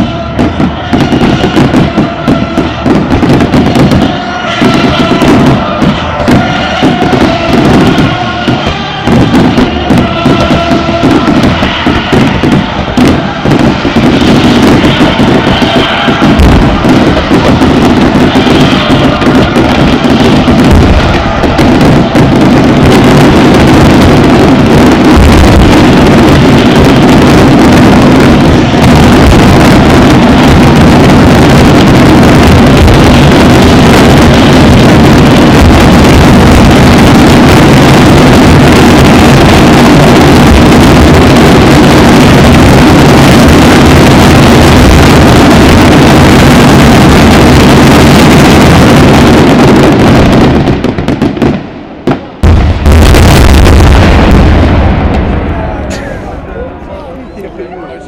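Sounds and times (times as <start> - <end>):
fireworks barrage: 0.0 - 58.0.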